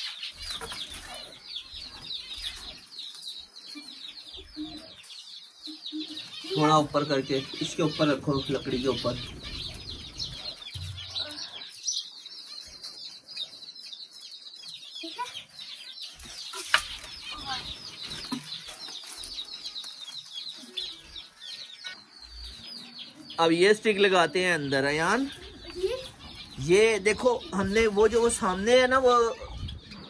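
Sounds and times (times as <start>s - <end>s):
birds chirping and calling: 0.0s - 30.0s.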